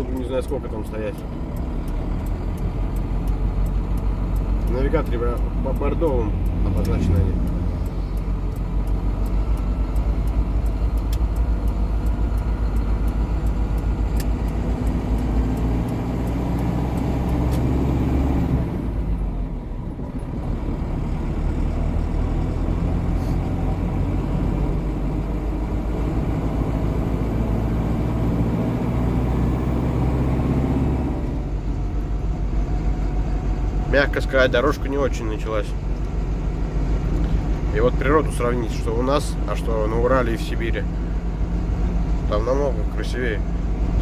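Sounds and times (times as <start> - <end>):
diesel engine running: 0.0 - 44.0
road noise: 0.0 - 44.0.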